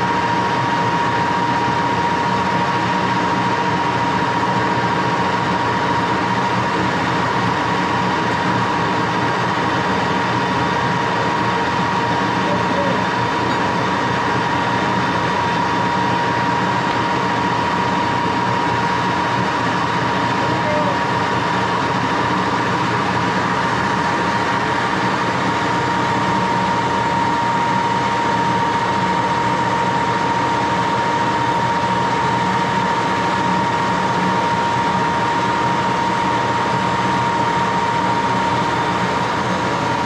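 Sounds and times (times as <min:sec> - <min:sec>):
high whine: 0:00.0 - 0:40.0
lathe mechanical hum: 0:00.0 - 0:40.0.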